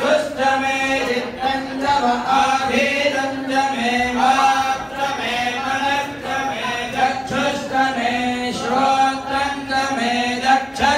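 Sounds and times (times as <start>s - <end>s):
group of men chanting: 0.0s - 10.9s.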